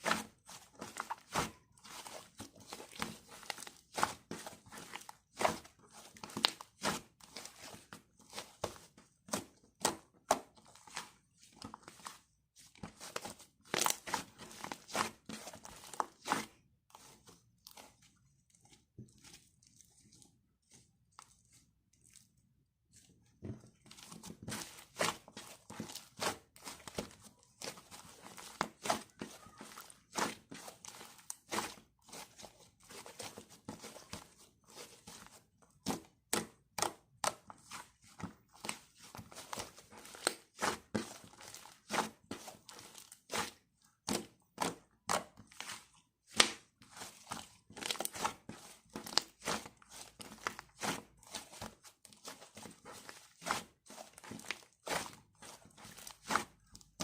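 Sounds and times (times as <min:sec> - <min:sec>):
crinkling and tapping handling noises: 0:00.0 - 0:57.0.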